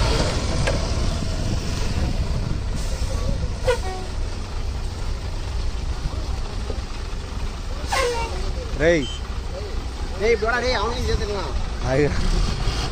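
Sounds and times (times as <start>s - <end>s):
diesel engine low rumble: 0.0s - 12.9s.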